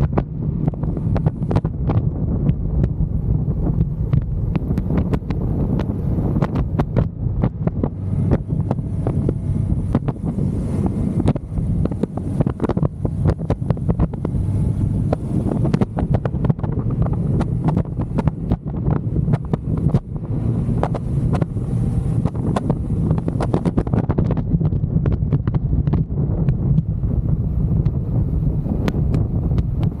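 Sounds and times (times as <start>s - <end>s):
motorcycle engine running: 0.0s - 30.0s
wind buffeting on microphone: 0.0s - 30.0s.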